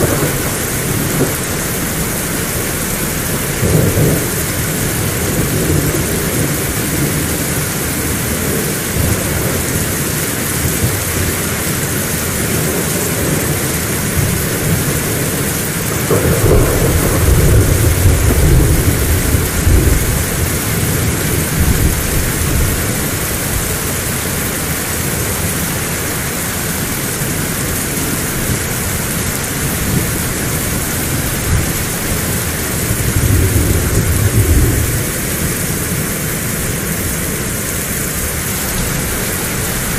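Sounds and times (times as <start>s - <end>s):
low rolls of thunder: 0.0s - 11.4s, 12.4s - 24.1s, 27.8s - 39.9s
heavy rain falling: 0.0s - 39.9s.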